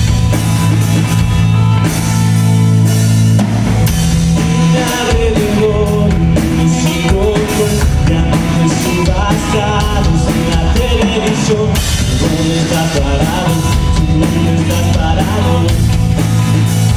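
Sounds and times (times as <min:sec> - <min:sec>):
drum kit beat: 0:00.0 - 0:16.9
held bass notes: 0:00.0 - 0:16.9.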